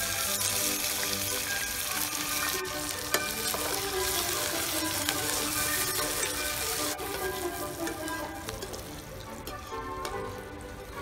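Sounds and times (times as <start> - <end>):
onions frying in hot oil: 0.0 - 11.0
ladle stirring in pan: 0.8 - 11.0.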